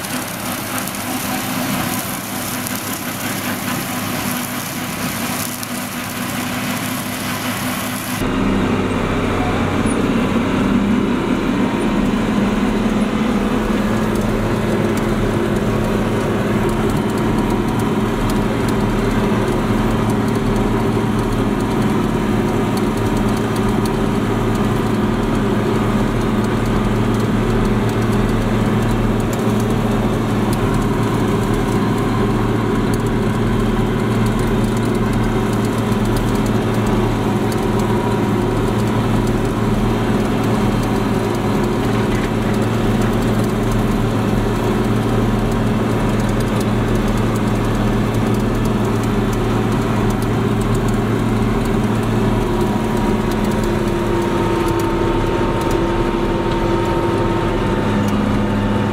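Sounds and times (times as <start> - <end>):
rotary cutter mowing grass: 0.0 - 58.9
tractor diesel engine droning: 0.0 - 58.9.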